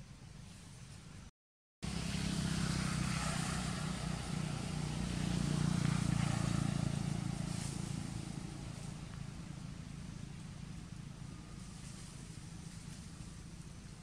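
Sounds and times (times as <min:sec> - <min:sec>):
low engine drone: 0:01.8 - 0:14.0.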